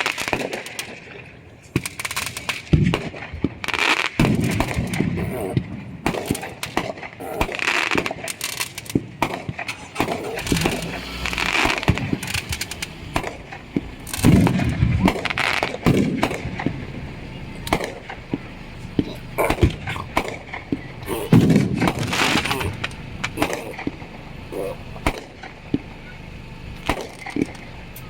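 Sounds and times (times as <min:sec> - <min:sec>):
fireworks cracking and popping: 0:00.0 - 0:24.1.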